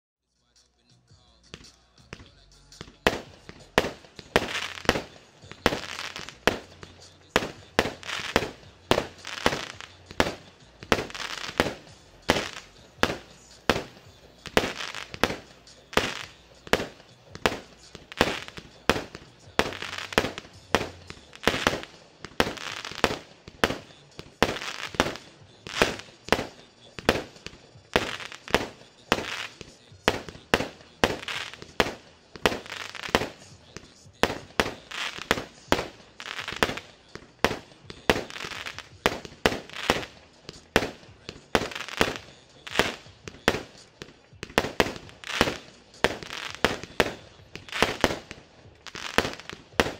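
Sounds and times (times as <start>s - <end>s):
firework bangs: 1.4s - 49.9s
firework hiss: 1.5s - 49.9s.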